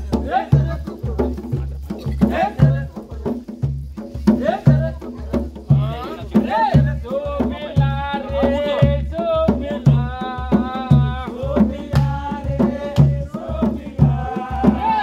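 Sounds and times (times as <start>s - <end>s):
deep drum beat: 0.0s - 15.0s.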